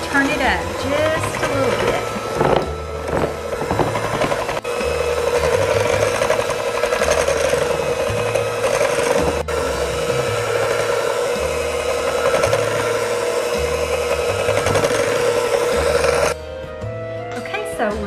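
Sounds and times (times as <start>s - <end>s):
beaters churning icing: 0.0s - 16.4s
hand mixer motor whine: 0.0s - 16.4s.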